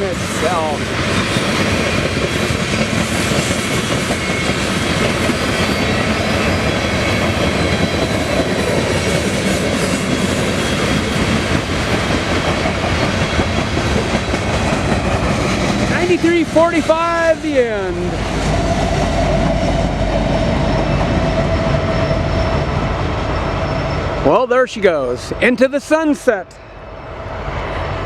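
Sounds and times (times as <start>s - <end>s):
steel train wheels on rails: 0.0s - 28.0s.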